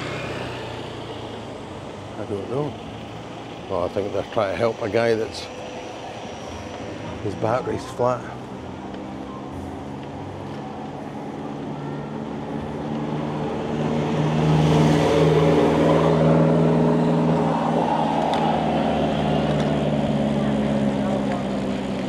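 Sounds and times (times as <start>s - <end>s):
truck engine drone: 0.0s - 22.0s.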